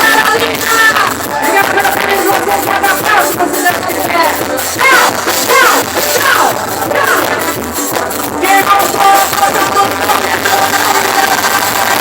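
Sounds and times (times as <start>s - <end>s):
live band playing loud music: 0.0s - 12.0s.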